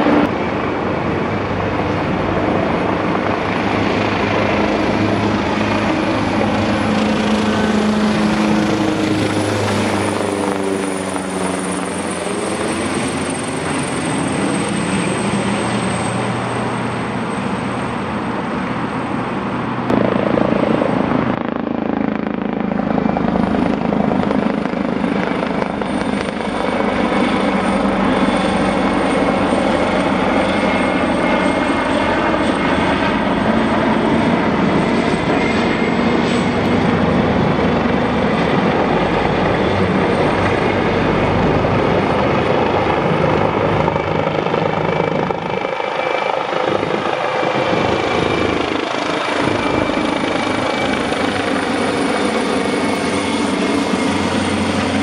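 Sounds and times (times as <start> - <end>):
helicopter rotor beat: 0.0 - 55.0
turbine whine: 0.0 - 55.0.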